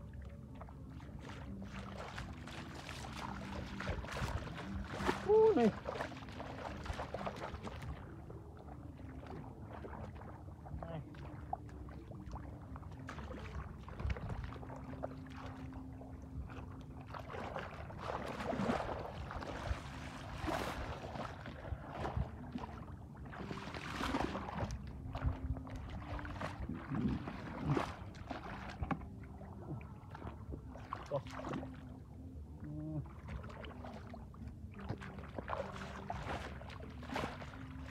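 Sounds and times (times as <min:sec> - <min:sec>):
bare feet splashing through water: 0:00.0 - 0:37.9
low steady hum: 0:00.0 - 0:37.9.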